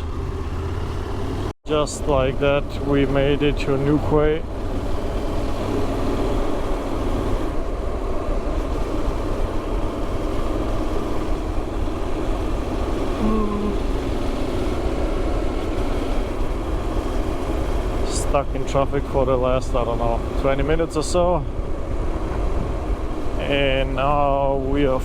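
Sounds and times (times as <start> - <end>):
motorcycle engine running: 0.0 - 25.0
road noise: 0.0 - 25.0.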